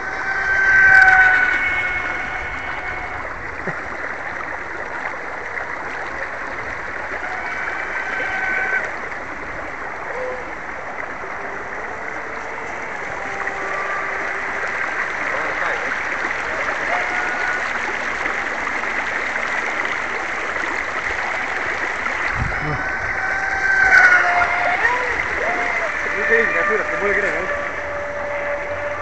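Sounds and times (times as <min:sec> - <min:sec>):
rc boat motor whine: 0:00.0 - 0:29.0.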